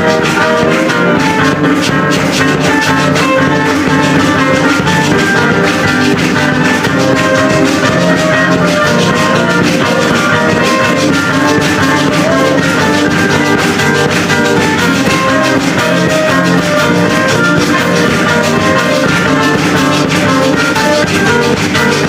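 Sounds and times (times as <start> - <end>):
bright keyboard notes: 0.0 - 22.0
drum kit: 0.0 - 22.0
guitar: 0.0 - 22.0.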